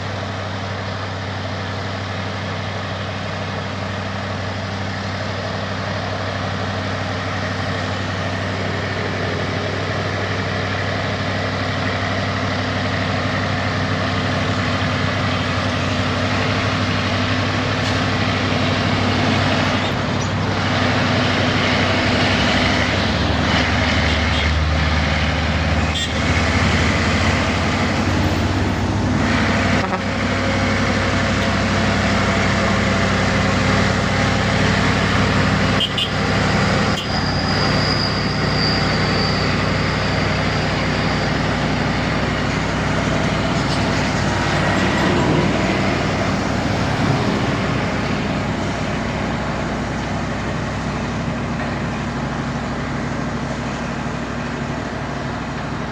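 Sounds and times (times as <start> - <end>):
heavy truck engines running: 0.0 - 55.9
road traffic noise: 0.0 - 55.9.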